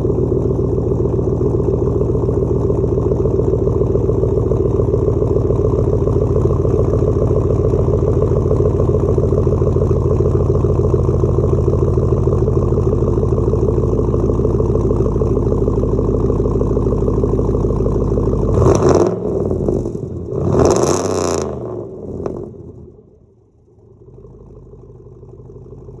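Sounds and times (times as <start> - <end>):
truck engine idling and revving: 0.0 - 26.0.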